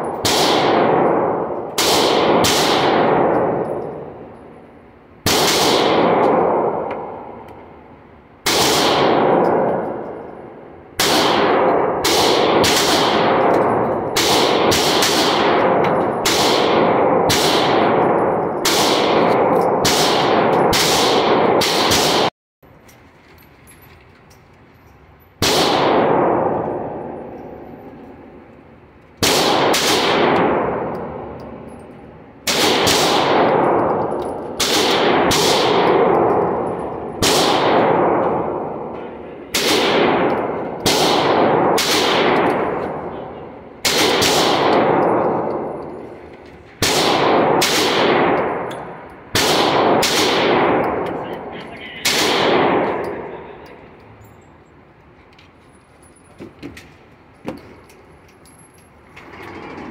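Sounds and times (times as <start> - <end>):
pistol shots echoing: 0.0 - 4.5, 5.2 - 22.3, 25.4 - 28.4, 29.2 - 46.2, 46.8 - 54.0.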